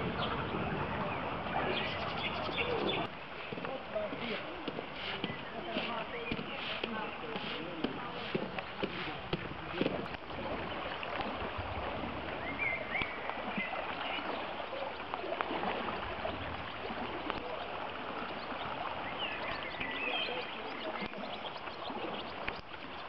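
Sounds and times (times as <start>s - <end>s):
creek rushing in flood: 0.0s - 23.0s.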